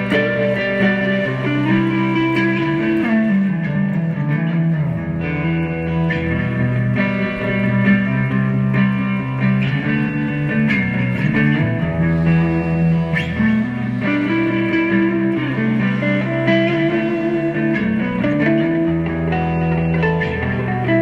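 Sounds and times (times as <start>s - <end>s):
guitar and bass music: 0.0s - 21.0s.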